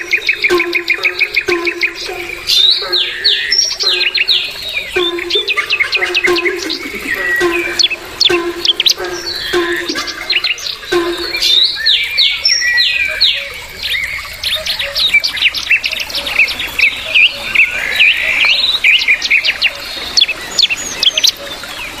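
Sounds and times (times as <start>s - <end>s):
birds chirping and whistling: 0.0s - 22.0s.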